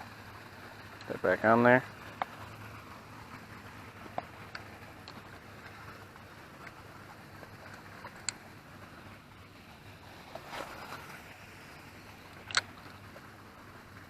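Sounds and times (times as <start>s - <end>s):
lakeside background hiss: 0.0s - 14.0s.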